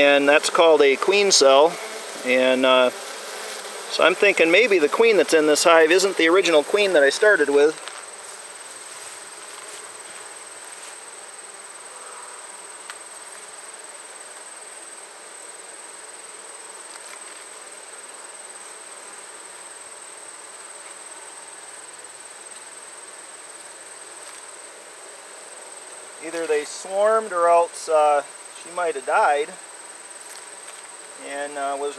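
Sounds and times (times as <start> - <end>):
bees buzzing: 0.0 - 31.9
high-pitched insect trill: 0.0 - 31.9.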